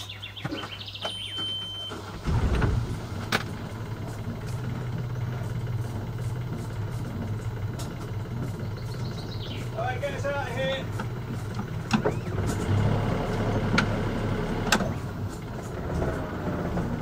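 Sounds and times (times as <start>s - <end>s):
diesel engine cranking and idling: 0.0s - 17.0s.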